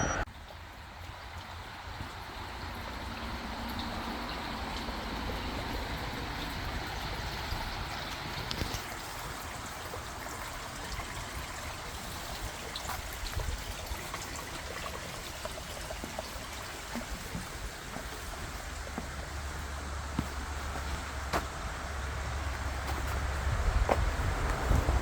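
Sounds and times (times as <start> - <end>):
stream trickling: 0.3 - 25.0.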